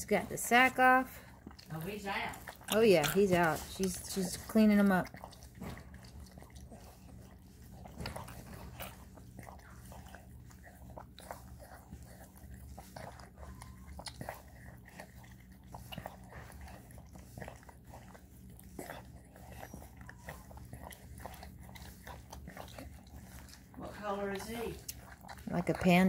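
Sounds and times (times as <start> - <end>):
dog licking puppy: 0.0 - 26.0
steady low hum: 0.0 - 26.0.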